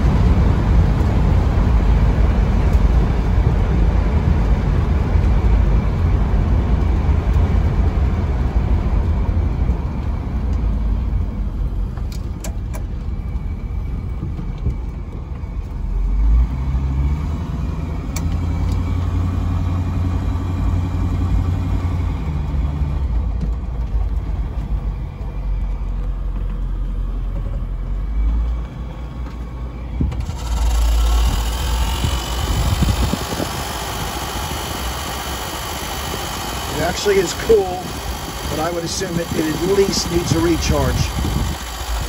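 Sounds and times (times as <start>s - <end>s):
car engine rumbling: 0.0s - 42.0s.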